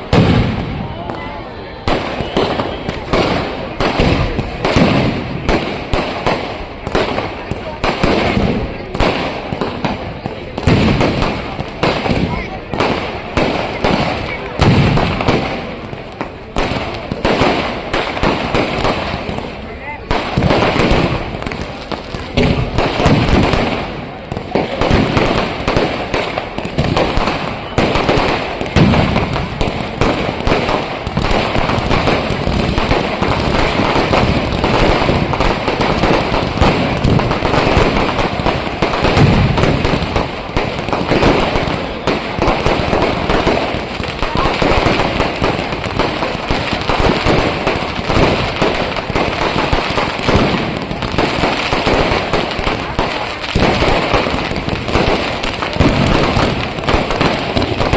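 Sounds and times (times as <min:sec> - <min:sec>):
firecracker bangs and crackles: 0:00.0 - 0:57.9.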